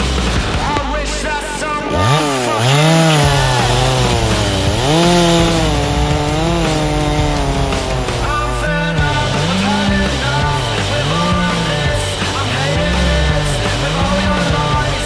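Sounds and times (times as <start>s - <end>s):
chainsaw revving and cutting: 1.8s - 15.0s.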